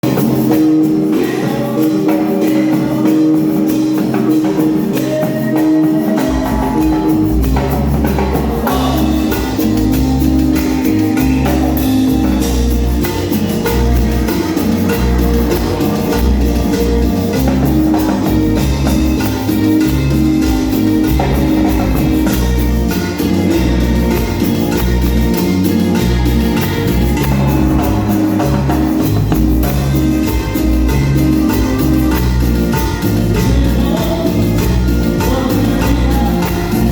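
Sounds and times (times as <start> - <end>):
band music with drums and guitar: 0.0 - 36.9.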